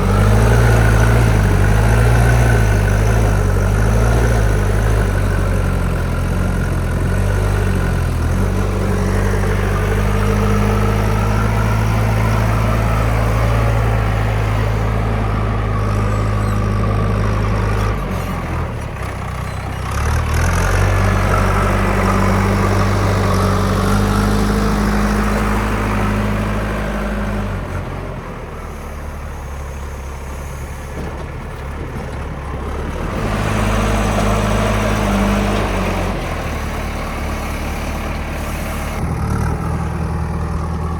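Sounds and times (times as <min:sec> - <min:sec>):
backhoe diesel engine working: 0:00.0 - 0:40.9.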